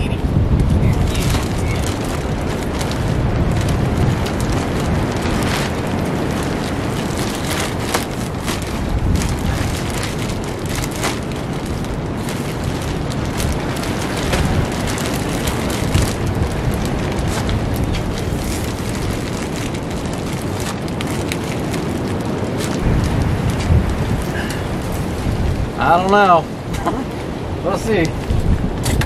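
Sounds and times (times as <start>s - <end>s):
plastic sheeting crackling: 0.0s - 28.8s
wind buffeting microphone: 0.0s - 29.0s.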